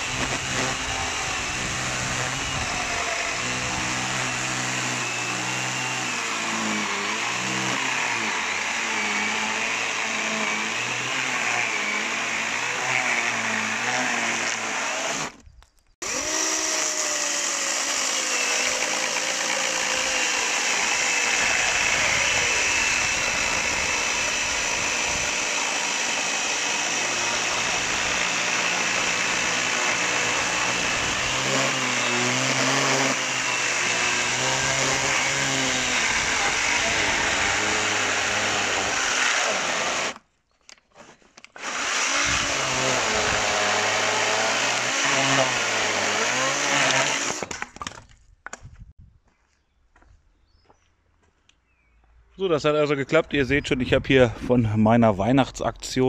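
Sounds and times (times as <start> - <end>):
electric chainsaw cutting log: 0.0 - 15.4, 16.0 - 40.2, 41.4 - 48.0.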